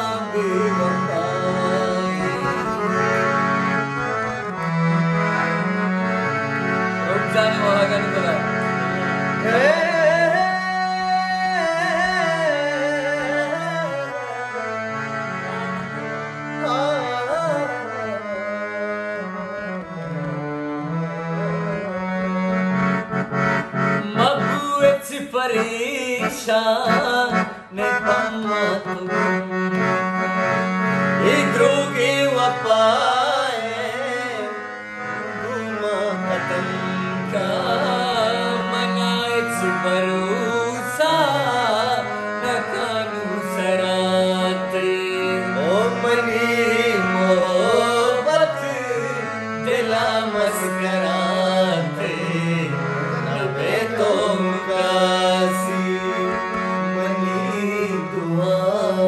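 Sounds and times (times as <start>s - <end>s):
men singing ornamented melody: 0.0s - 3.9s, 7.0s - 14.6s, 16.6s - 19.4s, 24.0s - 29.5s, 31.2s - 59.0s.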